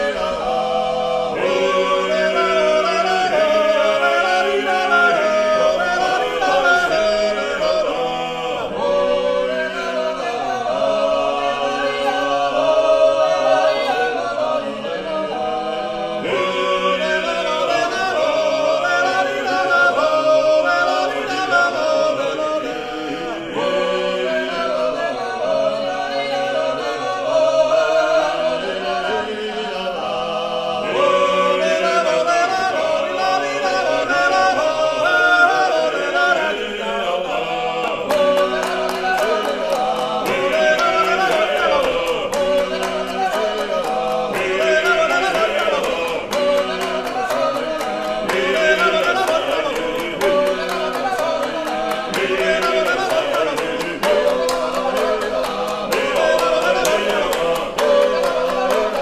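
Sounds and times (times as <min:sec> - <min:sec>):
male voices singing in harmony: 0:00.0 - 0:59.0
rhythmic hand clapping: 0:00.0 - 0:59.0.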